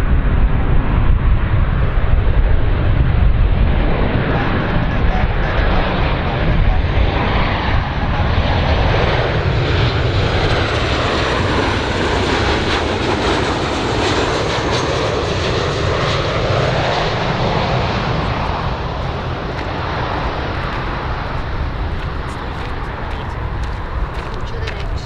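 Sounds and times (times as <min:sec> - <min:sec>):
jet engine noise with high whine: 0:00.0 - 0:25.0.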